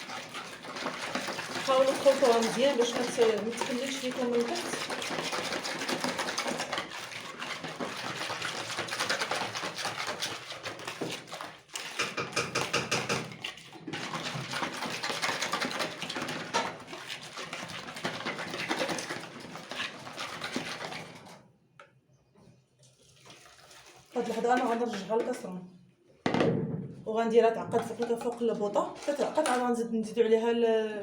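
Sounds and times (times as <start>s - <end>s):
whisking liquid in a bowl: 0.0s - 21.9s, 22.8s - 25.6s, 27.7s - 29.9s.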